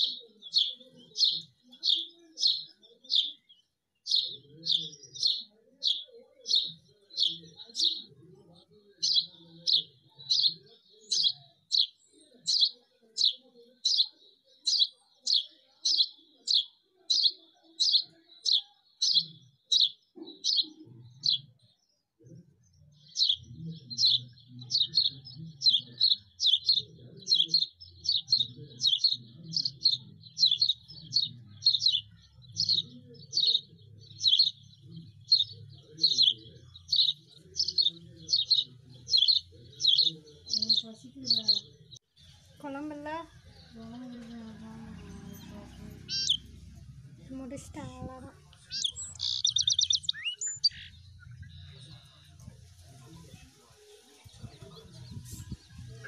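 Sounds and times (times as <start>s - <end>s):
small bird chirping: 0.0s - 53.5s.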